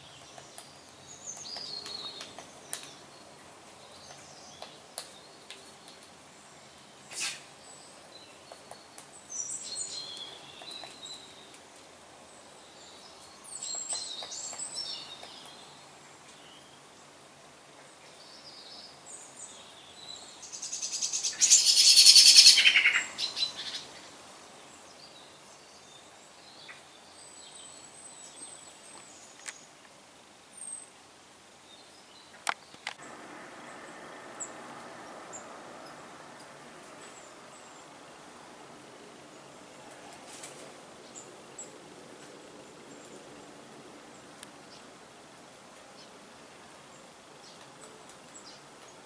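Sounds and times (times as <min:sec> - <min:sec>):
birds chirping: 0:00.0 - 0:29.8, 0:30.4 - 0:40.0.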